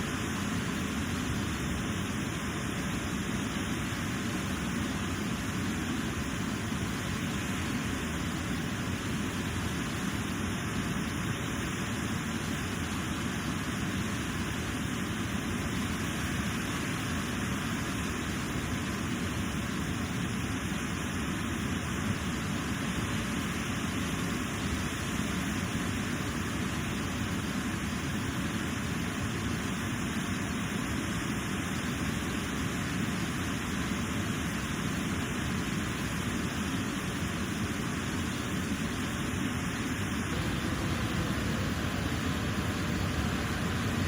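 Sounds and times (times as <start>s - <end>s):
river water cascading over rocks: 0.0s - 44.0s.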